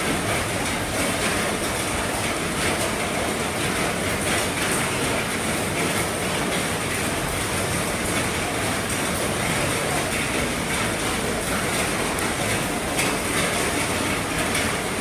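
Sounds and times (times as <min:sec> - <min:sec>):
heavy rain drumming on roof: 0:00.0 - 0:15.0.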